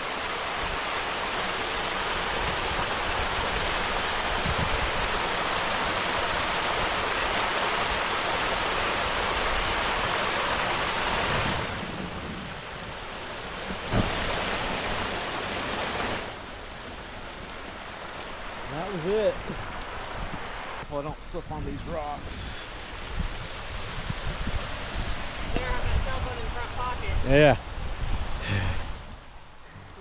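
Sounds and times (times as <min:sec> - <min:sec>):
small waterfall rushing: 0:00.0 - 0:30.0.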